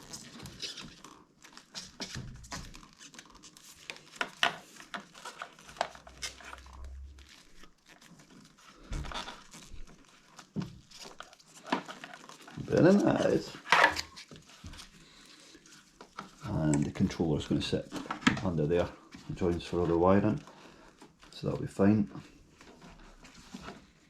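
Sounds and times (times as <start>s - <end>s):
clicks and rustles of wires: 0.0s - 24.0s.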